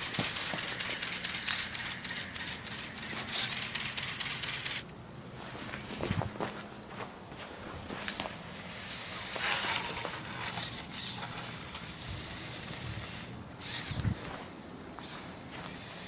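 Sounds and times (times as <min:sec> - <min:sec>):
faint electric motor hum: 0:00.0 - 0:16.0.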